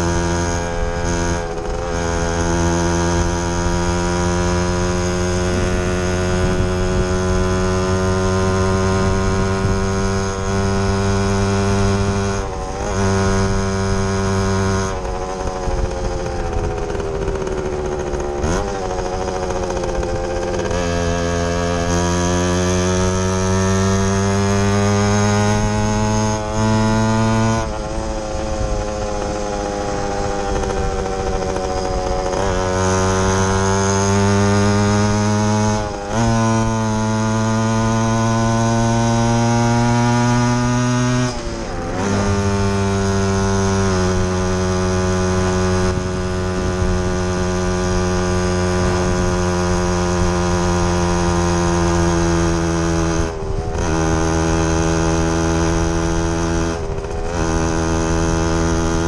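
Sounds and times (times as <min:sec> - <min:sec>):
two-stroke motorcycle engine running: 0:00.0 - 0:59.0.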